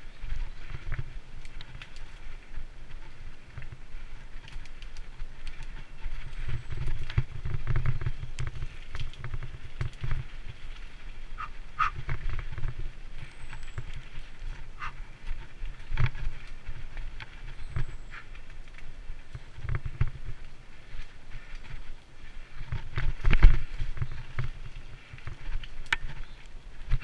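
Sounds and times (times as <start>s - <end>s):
bike frame rattling: 0.0s - 27.0s
tyres crunching over dirt: 0.0s - 27.0s
wind buffeting microphone: 0.0s - 27.0s.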